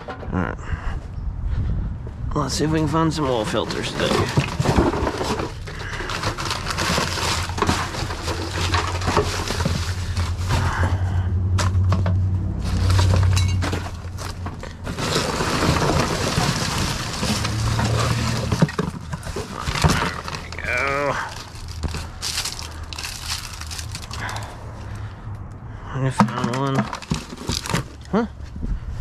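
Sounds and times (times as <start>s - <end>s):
metal and plastic clattering: 0.0s - 0.4s, 3.2s - 11.0s, 11.6s - 25.0s, 26.1s - 28.1s.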